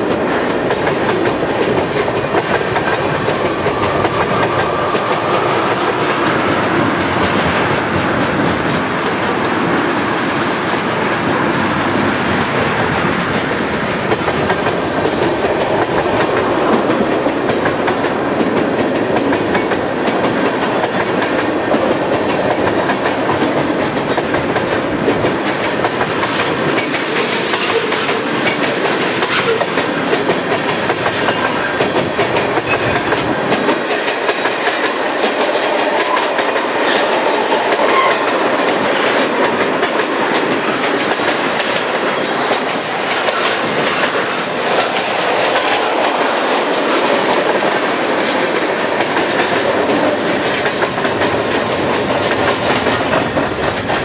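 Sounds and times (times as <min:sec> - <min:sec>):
train wheels rolling on rail: 0:00.0 - 0:54.0
wheels clacking over rail joints: 0:00.0 - 0:54.0.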